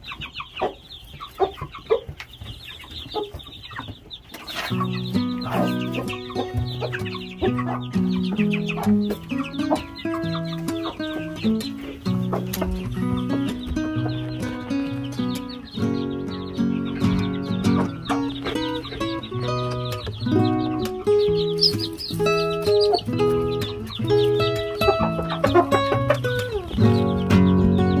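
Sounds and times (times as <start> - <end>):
chicks peeping: 0.0 - 28.0
hen clucking: 0.0 - 28.0
background music with held notes: 4.6 - 28.0.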